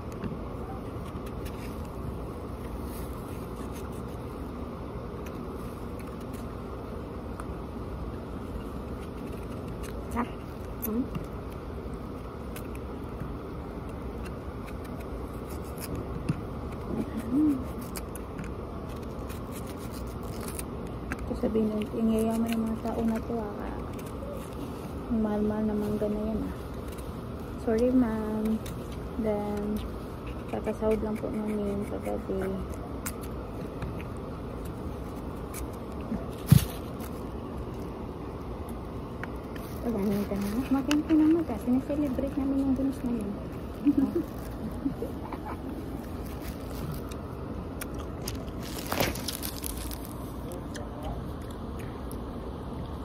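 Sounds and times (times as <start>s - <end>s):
knife peeling and cutting fruit: 0.0s - 53.0s
steady background noise: 0.0s - 53.0s.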